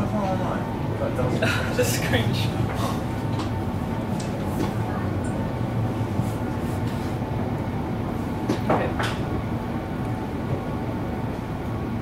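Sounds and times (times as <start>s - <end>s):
train wheels and motors humming: 0.0s - 12.0s.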